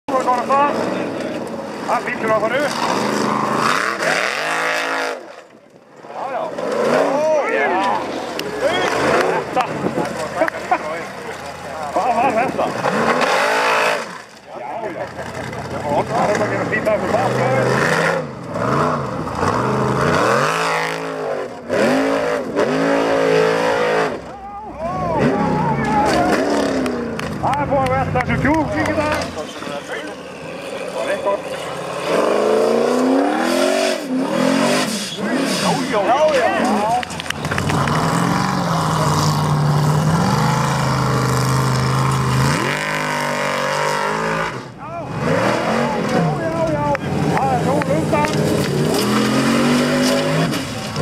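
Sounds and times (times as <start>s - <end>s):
buggy engine revving hard: 0.1s - 5.4s, 6.1s - 51.0s.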